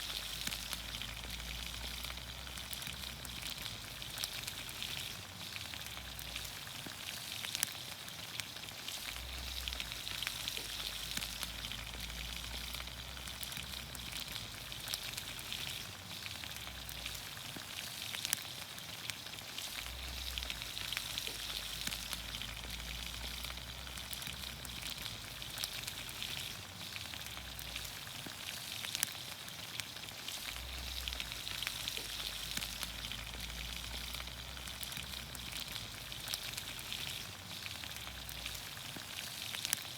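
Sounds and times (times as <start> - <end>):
sharp pops and crackles: 0.0 - 39.9
vegetables sizzling in pan: 0.0 - 39.9.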